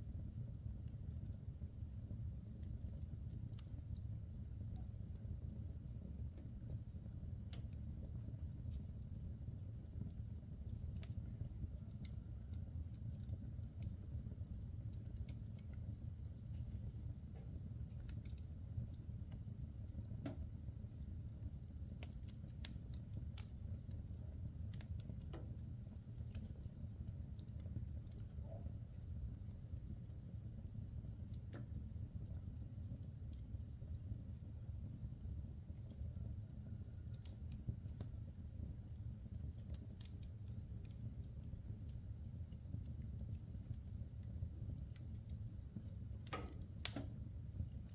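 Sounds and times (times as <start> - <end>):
fire crackling and popping: 0.0 - 47.9.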